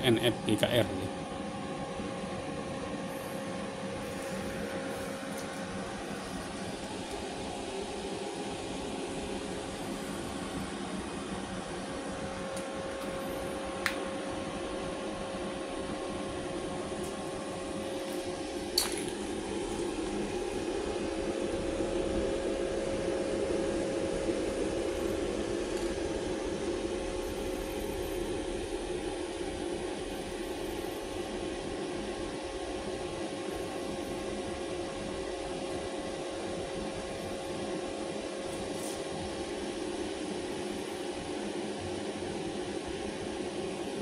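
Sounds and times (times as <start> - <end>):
cooling fan humming: 0.0 - 44.0.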